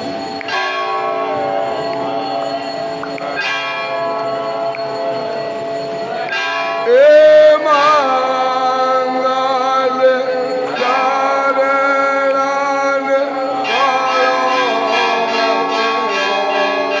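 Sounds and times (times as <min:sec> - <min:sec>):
person singing devotional music: 0:00.0 - 0:17.0.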